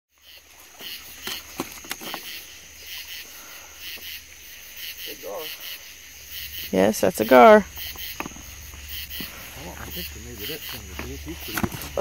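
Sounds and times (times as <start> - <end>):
crickets and insects chirping: 0.1 - 12.0.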